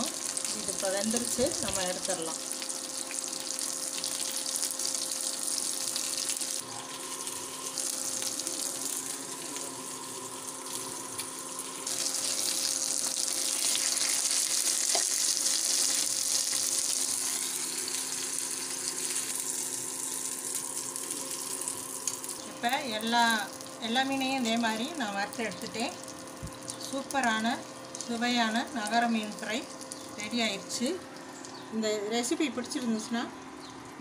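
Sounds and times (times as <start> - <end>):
fish sizzling in oil: 0.0 - 31.7.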